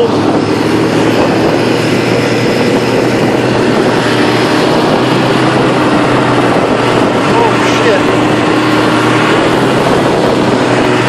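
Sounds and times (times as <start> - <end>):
broad rushing noise: 0.0 - 11.0
snowmobile engine running: 0.0 - 11.0.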